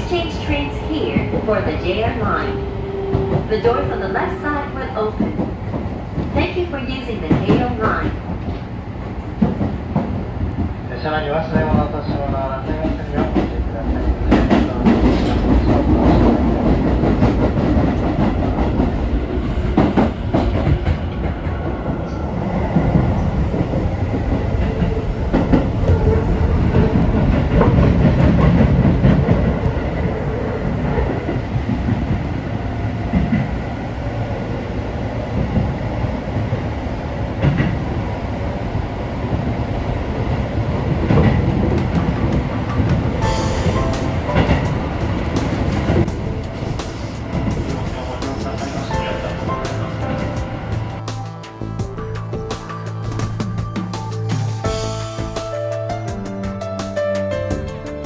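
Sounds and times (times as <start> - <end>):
train wheels rumbling on rail: 0.0 - 58.0
train wheel clacks: 0.1 - 10.8, 11.5 - 22.0, 22.7 - 32.4, 40.8 - 58.0.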